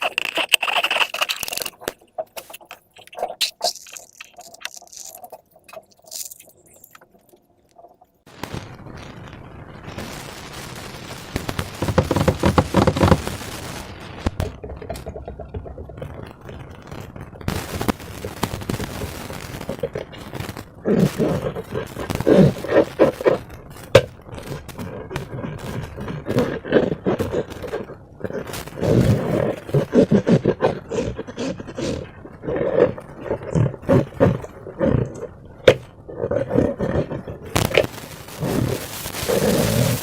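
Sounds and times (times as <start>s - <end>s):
slime crackling and popping: 0.0s - 40.0s.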